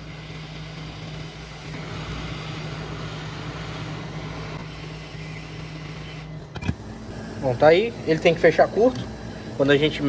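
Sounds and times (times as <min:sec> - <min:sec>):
hot air blower rushing: 0:00.0 - 0:10.0
low fan motor hum: 0:00.0 - 0:10.0.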